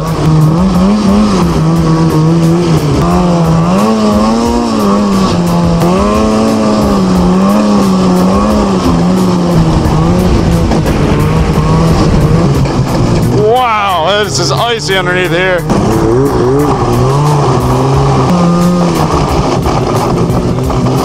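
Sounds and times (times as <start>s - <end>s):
sled rushing and rattling on snow: 0.0s - 21.0s
snowmobile engine running: 0.0s - 21.0s.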